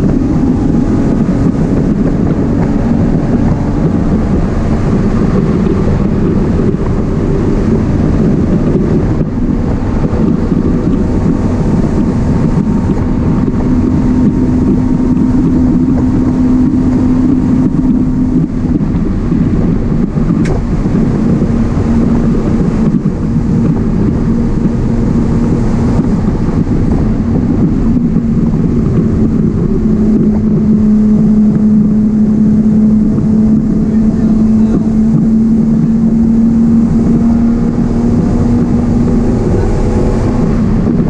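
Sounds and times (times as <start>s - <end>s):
car engine pulling: 0.0s - 41.0s
tyre and wind noise: 0.0s - 41.0s.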